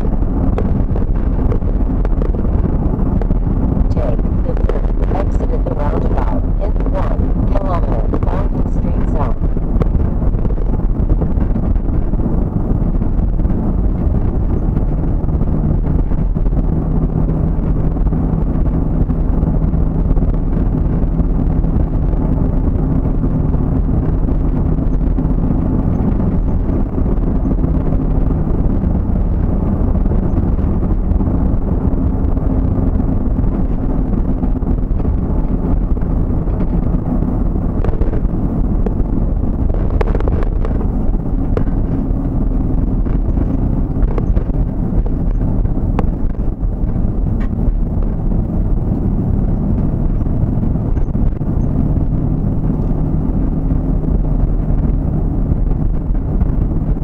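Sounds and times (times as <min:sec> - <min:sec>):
road noise inside vehicle: 0:00.0 - 0:57.0
vehicle engine drone: 0:00.0 - 0:57.0.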